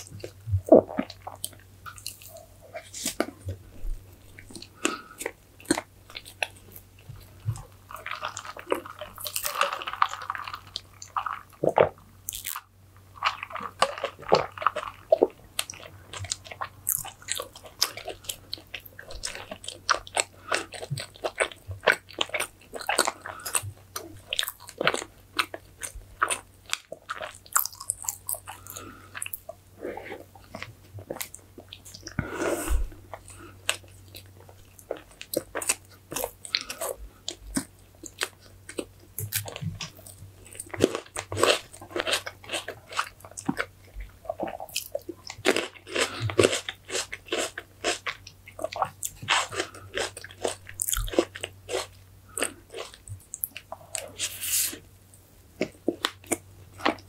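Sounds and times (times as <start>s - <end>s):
person chewing with wet smacks: 0.0s - 54.8s, 55.5s - 57.0s.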